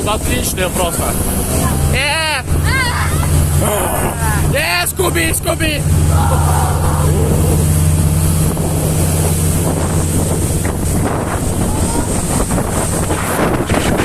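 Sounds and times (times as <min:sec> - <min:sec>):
motorboat engine running: 0:00.0 - 0:14.0
water rushing past hull: 0:00.0 - 0:14.0
wind buffeting microphone: 0:00.0 - 0:14.0.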